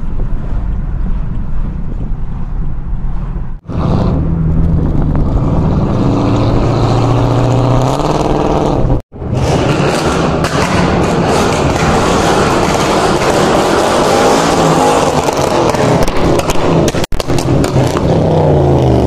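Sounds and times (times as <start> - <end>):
car engine hum: 0.0 - 18.9
road noise: 0.0 - 19.0.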